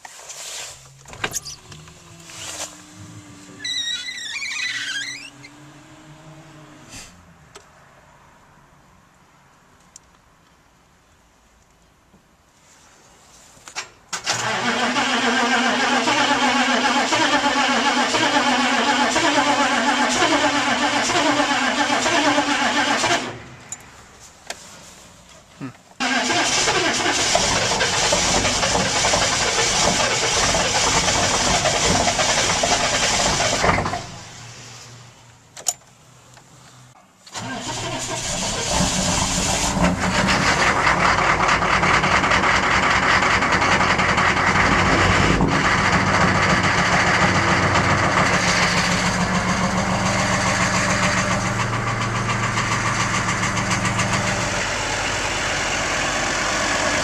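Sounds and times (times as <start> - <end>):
diesel engine starting and idling: 0.6 - 7.5, 14.1 - 23.8, 25.6 - 35.5, 37.2 - 57.0.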